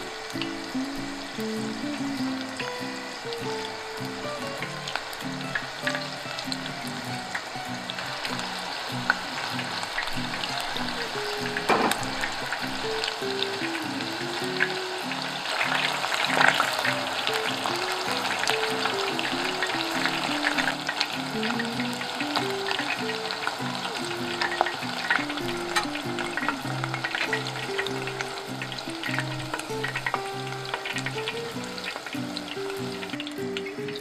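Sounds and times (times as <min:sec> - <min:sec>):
chicken deep-frying in hot oil: 0:00.0 - 0:34.0
light background melody: 0:00.0 - 0:34.0.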